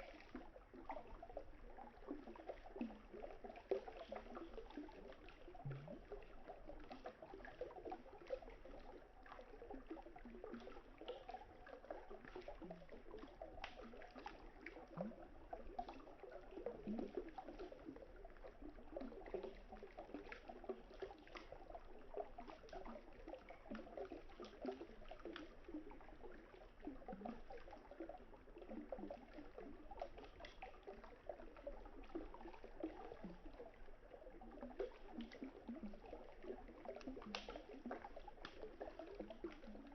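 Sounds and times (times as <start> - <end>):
river water trickling: 0.0 - 39.9.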